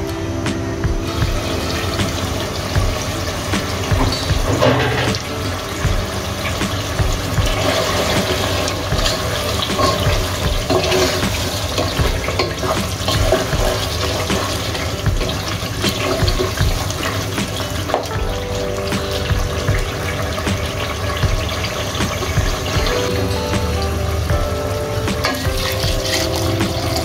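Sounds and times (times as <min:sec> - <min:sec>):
curry sizzling in a pot: 0:01.0 - 0:27.0.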